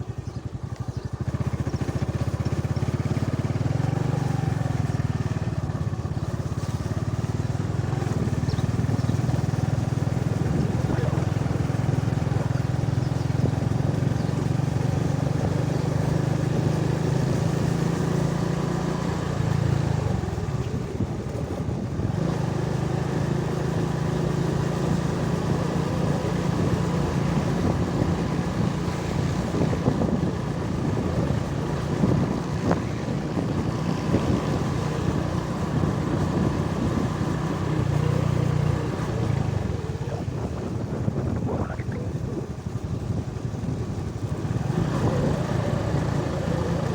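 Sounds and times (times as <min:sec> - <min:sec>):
vehicle engine running: 0:00.0 - 0:46.9
wind buffeting microphone: 0:00.0 - 0:46.9.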